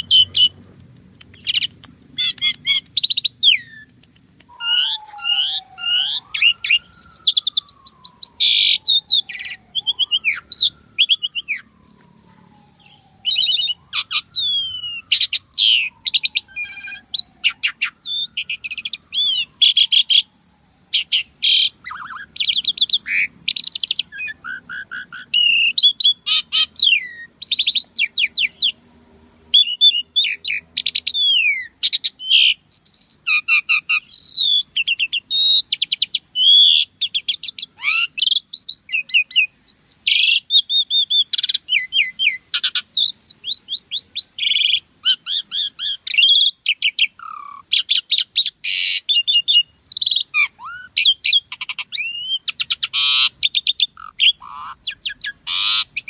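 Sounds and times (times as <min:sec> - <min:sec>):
bird singing chattering song: 0:00.0 - 0:56.0.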